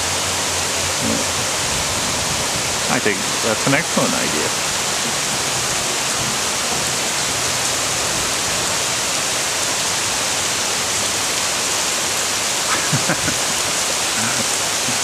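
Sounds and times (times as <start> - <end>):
heavy rain on thatch and foliage: 0.0 - 15.0
runoff streaming off eave: 0.0 - 15.0.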